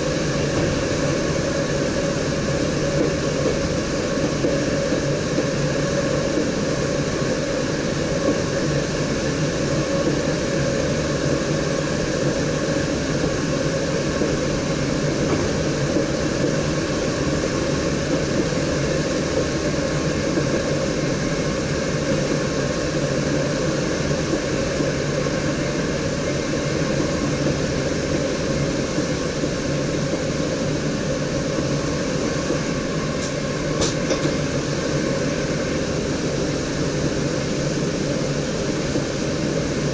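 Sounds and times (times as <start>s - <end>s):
train cab low rumble: 0.0s - 39.9s.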